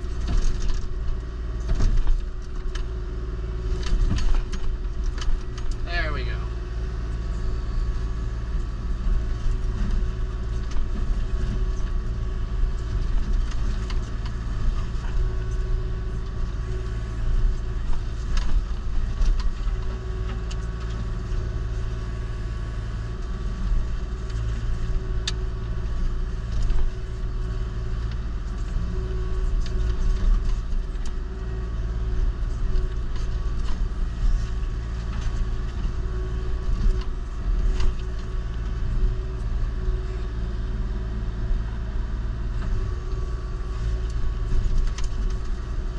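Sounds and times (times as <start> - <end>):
excavator diesel engine running: 0.0 - 45.9
forestry mulcher grinding: 0.0 - 45.9.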